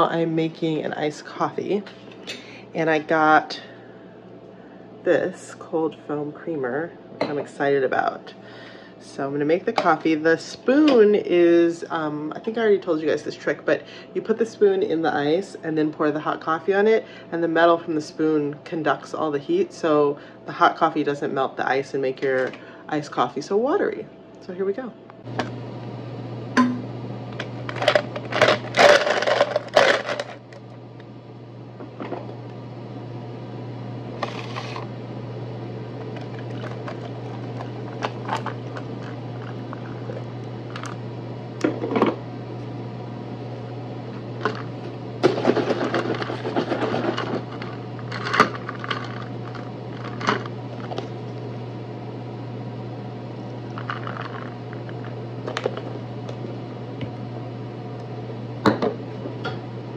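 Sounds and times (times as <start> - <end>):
low appliance hum: 0.0 - 59.9.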